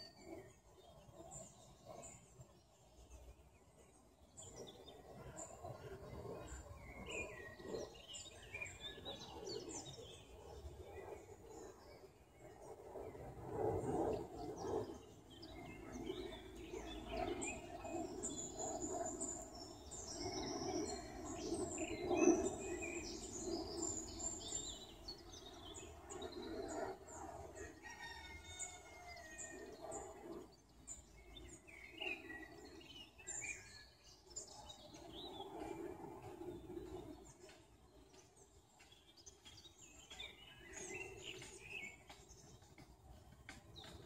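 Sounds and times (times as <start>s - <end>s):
low uneven pulsing sound: 0.0s - 28.0s, 28.7s - 44.0s
birds chirping and trilling: 0.0s - 44.0s.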